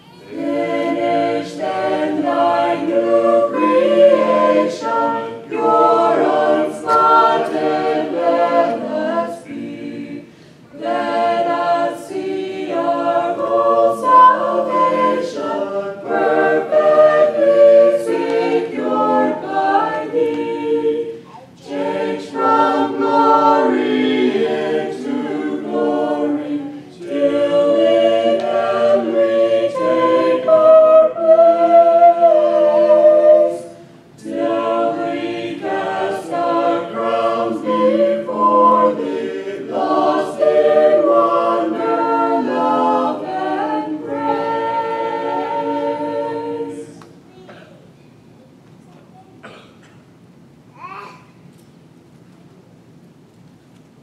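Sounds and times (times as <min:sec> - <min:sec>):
group singing a cappella: 0:00.0 - 0:47.2.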